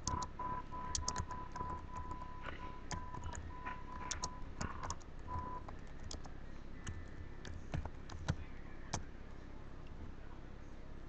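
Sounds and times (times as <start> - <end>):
keyboard keys clicking: 0.0 - 9.0.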